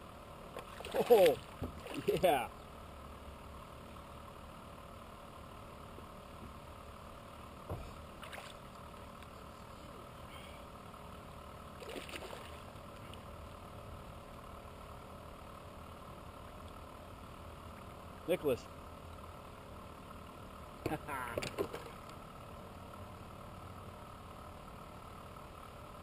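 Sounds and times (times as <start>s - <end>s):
faint water noise around kayak: 0.0s - 26.0s.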